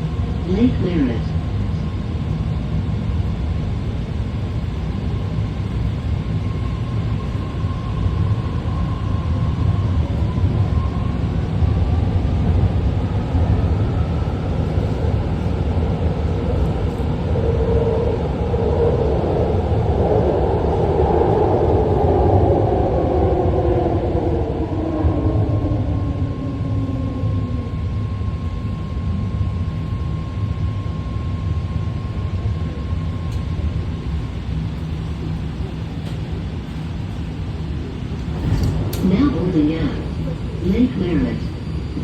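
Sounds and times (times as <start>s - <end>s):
train running on rails: 0.0s - 30.8s, 32.4s - 42.0s
electric propulsion whine: 4.9s - 42.0s.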